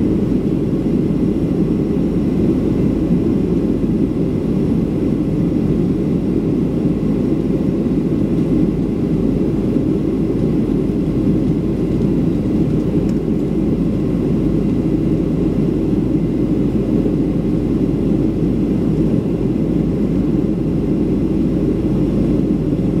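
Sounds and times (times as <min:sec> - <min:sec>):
jet engines inside cabin: 0:00.0 - 0:23.0.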